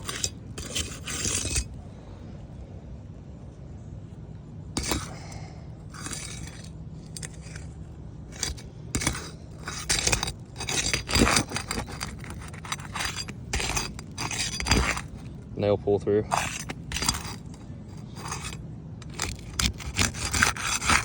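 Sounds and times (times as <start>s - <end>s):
roofing tool scraping: 0.0s - 1.8s, 4.8s - 15.5s, 16.2s - 21.0s.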